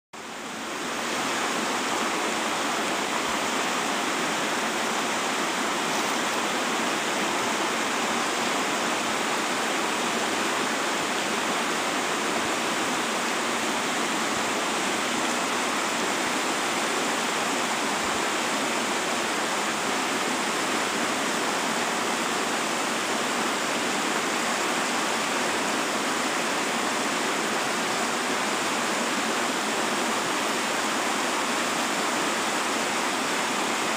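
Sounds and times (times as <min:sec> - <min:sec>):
water rushing over rocks: 0:00.2 - 0:33.9.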